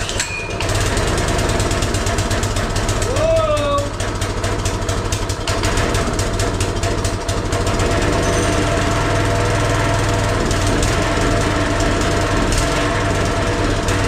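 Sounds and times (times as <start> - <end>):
small engine running steadily: 0.0 - 14.0.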